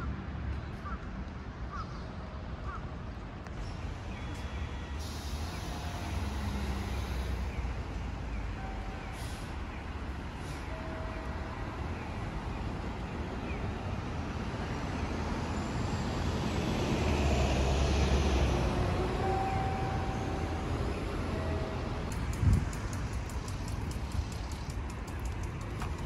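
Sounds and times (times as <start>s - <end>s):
passing cars road noise: 3.2s - 26.0s.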